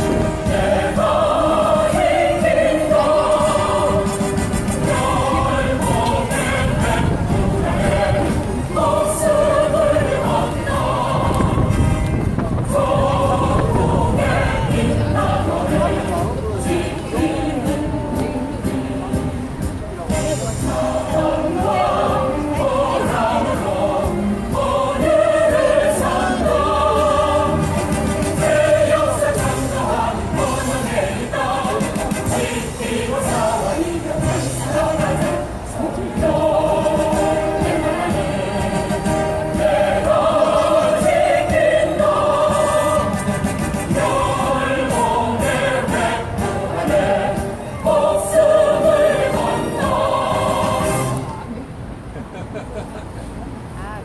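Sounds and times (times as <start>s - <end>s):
choir singing held notes: 0.0s - 51.8s.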